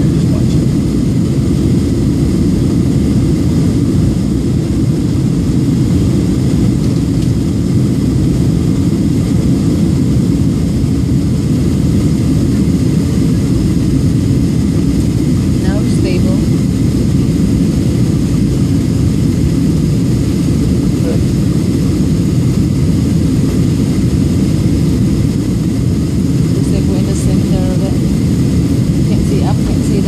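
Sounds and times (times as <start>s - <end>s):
jet cabin drone: 0.0s - 30.0s.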